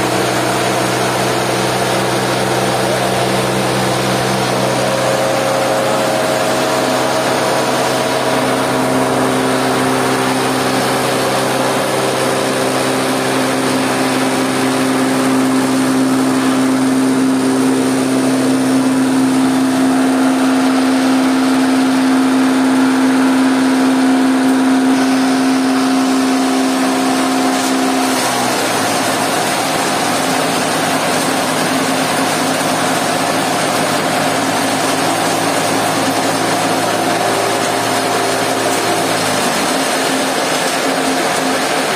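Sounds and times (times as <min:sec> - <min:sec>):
motor hum and whine: 0:00.0 - 0:41.9
stone crusher running: 0:00.0 - 0:41.9.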